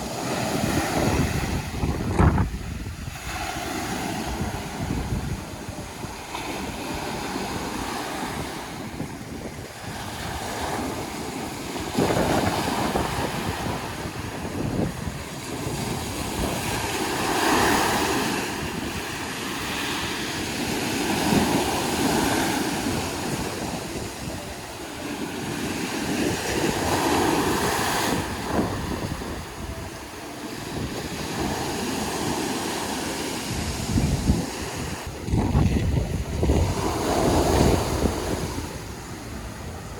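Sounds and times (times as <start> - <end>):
small waves washing onto shore: 0.0 - 39.9
wind rumble on microphone: 0.0 - 39.9.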